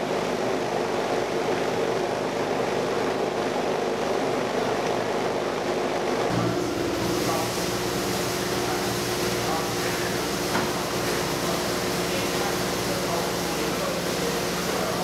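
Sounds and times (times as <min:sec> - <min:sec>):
food processing machinery humming: 0:00.0 - 0:15.0.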